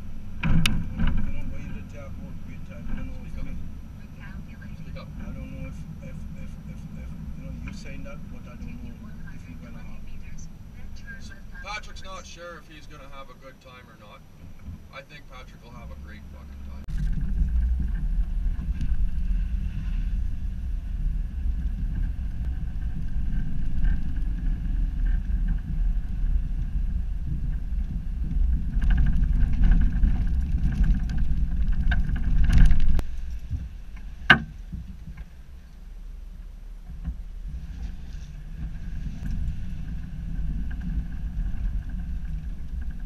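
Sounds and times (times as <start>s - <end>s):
road and engine noise in cabin: 0.0s - 43.0s.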